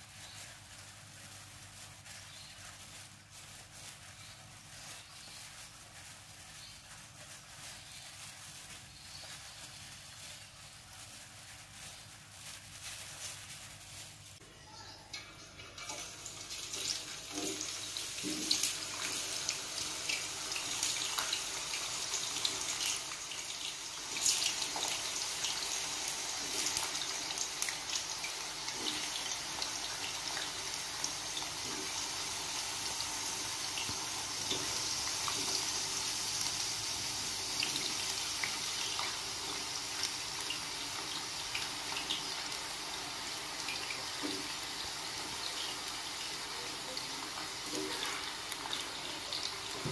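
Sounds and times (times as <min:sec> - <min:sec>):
food deep-frying in hot oil: 0:00.0 - 0:49.9.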